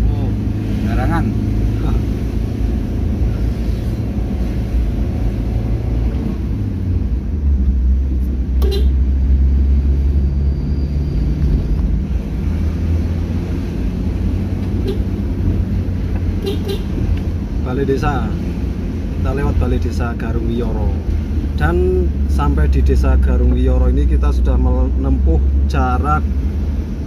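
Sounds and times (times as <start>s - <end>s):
road and wind noise: 0.0s - 27.0s.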